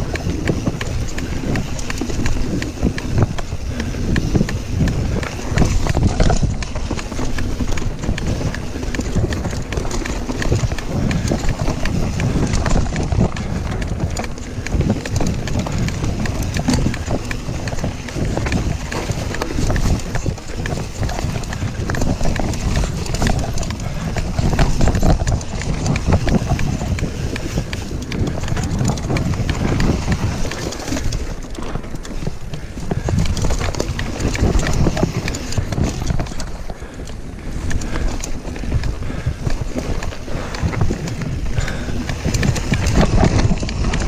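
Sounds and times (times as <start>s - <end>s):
bike rattling and knocking: 0.0s - 44.0s
bike tyres rumbling on dirt: 0.0s - 44.0s.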